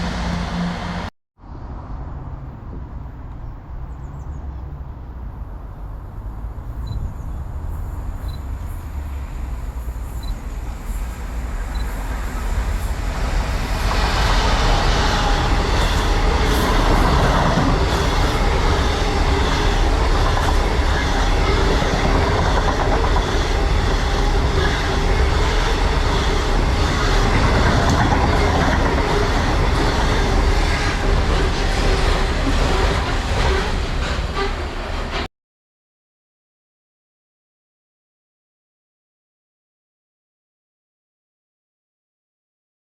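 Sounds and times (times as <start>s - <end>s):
train running on rails: 0.0s - 1.1s, 1.7s - 35.3s.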